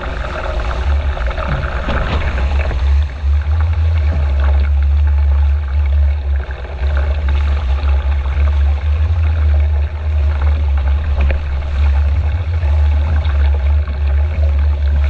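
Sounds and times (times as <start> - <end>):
water splashing along boat hull: 0.0 - 15.0
wind buffeting microphone: 0.0 - 15.0.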